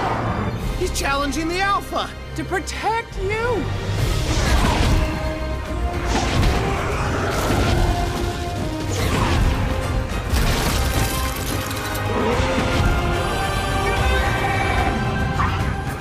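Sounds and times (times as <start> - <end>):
dramatic orchestral music: 0.0 - 16.0.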